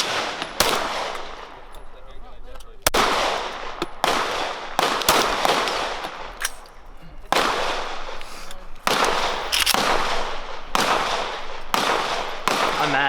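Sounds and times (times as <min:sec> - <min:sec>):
handgun shots echoing: 0:00.0 - 0:02.1, 0:02.8 - 0:13.0.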